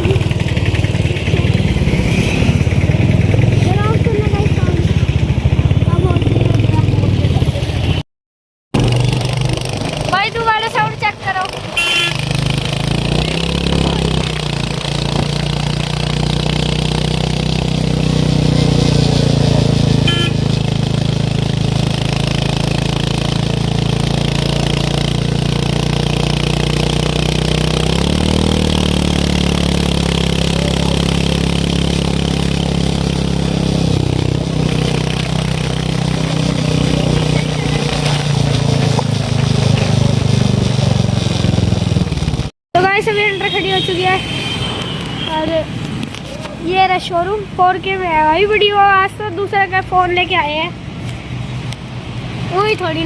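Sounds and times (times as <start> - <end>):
motorcycle engine running: 0.0 - 8.0, 8.8 - 53.0.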